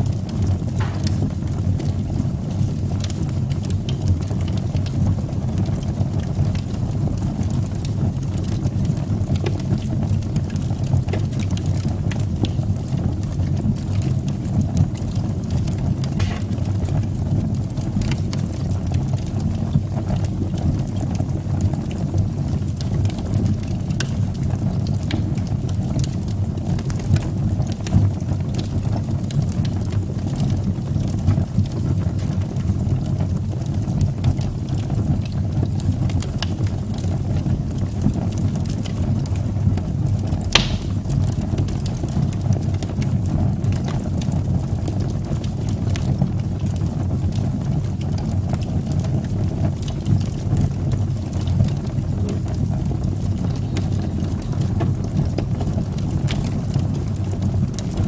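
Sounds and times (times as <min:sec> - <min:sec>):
fire crackling and popping: 0:00.0 - 0:58.0
fire rumbling in fireplace: 0:00.0 - 0:58.0.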